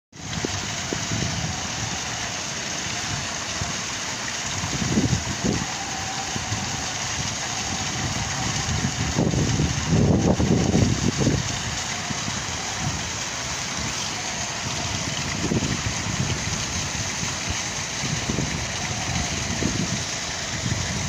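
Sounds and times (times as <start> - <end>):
waterfall splashing into pond: 0.1 - 21.0
low rumbles: 0.2 - 21.0.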